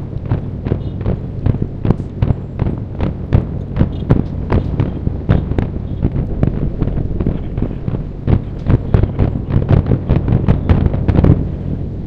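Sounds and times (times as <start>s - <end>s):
continuous low rumble: 0.0s - 12.0s
fireworks bursting with sharp bangs: 0.2s - 11.4s.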